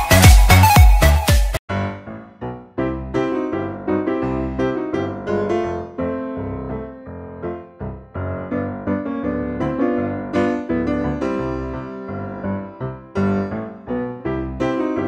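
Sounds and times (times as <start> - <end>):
piano notes: 0.0 - 15.0.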